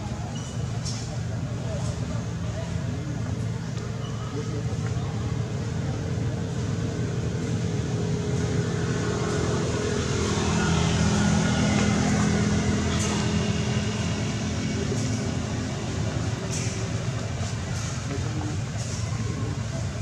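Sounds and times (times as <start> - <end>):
motor engine humming: 2.4 - 20.0.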